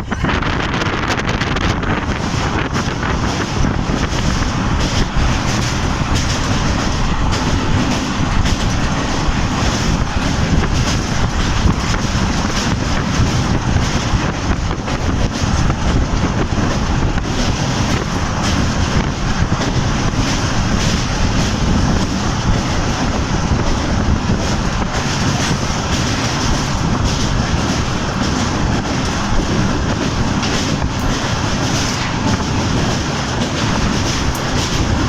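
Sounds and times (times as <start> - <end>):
train rumble: 0.0 - 35.0
wheels clattering over track: 2.0 - 35.0.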